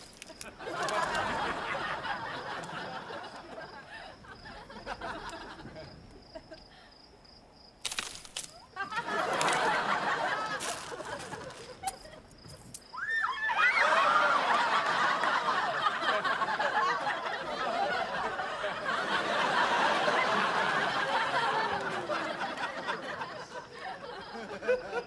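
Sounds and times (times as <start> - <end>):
audience laughing: 0.2 - 6.6, 8.8 - 12.4, 13.6 - 25.0.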